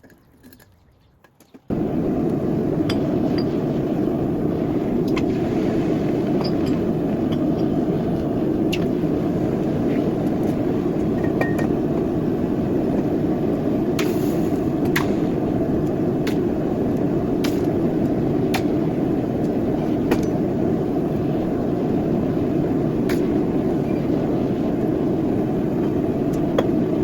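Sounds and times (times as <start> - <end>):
furnace roaring: 1.7 - 27.0.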